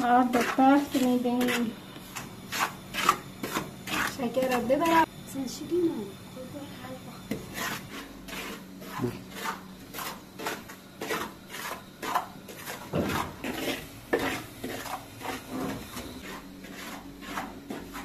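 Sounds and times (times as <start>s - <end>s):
spoon stirring and scraping pot: 0.0s - 5.1s, 7.1s - 18.0s.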